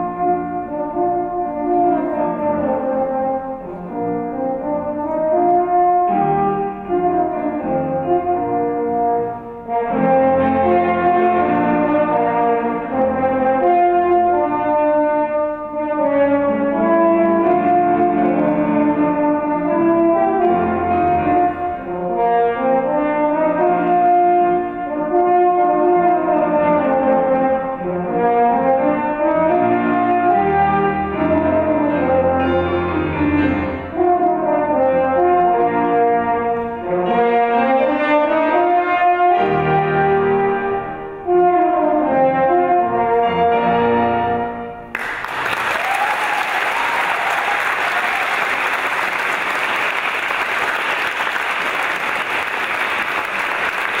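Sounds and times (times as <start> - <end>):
french horn melody: 0.0 - 44.9
piano accompaniment: 0.0 - 54.0.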